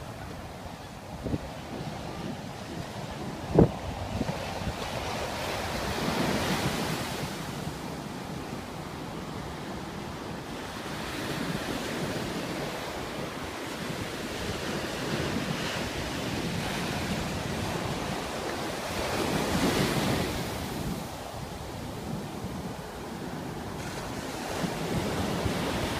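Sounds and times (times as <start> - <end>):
ocean surf breaking on beach: 0.0 - 25.9.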